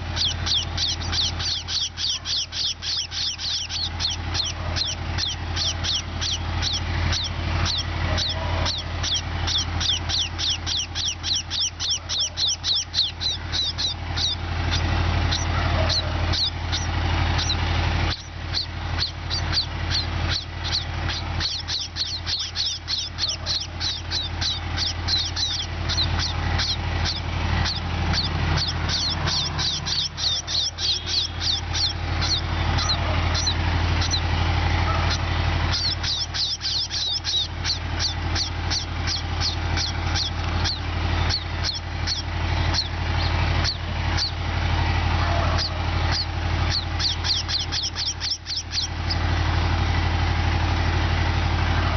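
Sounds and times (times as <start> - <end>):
sparrows chirping: 0.0 - 50.1
steady low rumble: 0.0 - 51.9.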